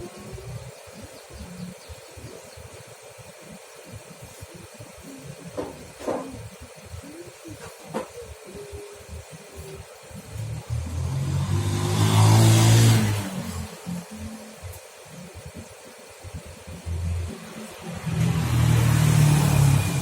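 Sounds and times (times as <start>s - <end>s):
engine idling puffing exhaust: 0.0s - 20.0s
exhaust gas hiss: 0.0s - 20.0s.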